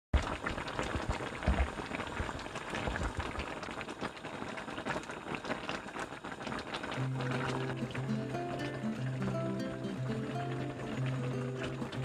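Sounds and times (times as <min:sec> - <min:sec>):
stew bubbling in a pan: 0:00.2 - 0:12.0.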